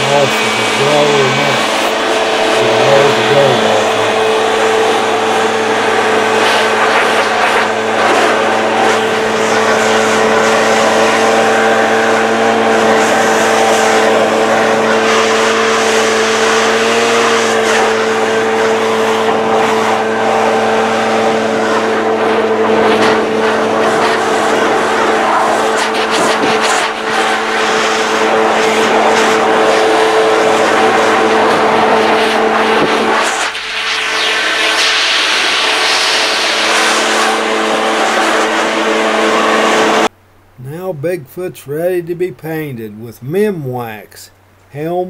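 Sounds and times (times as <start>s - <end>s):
leaf blower running: 0.0s - 40.9s.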